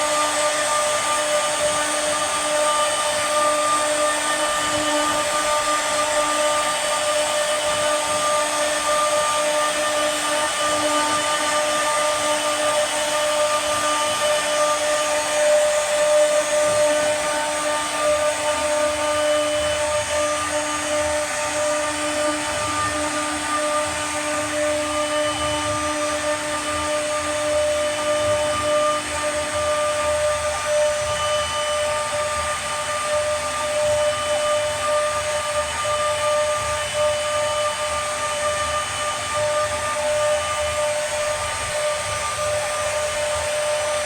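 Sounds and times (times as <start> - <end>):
router spindle whine: 0.0 - 44.0.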